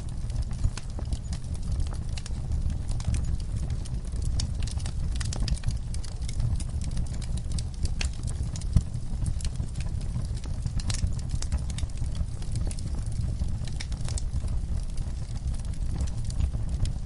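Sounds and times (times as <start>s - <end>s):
sharp pops of burning logs: 0.0s - 17.0s
wood fire crackling: 0.0s - 17.0s.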